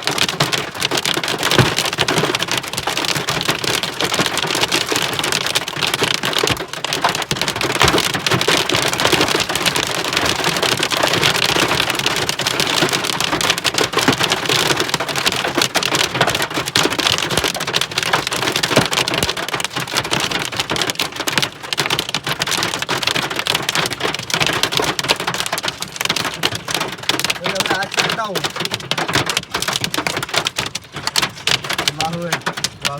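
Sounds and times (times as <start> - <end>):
hailstones pelting hard surfaces: 0.0 - 32.9
heavy rain: 0.0 - 32.9.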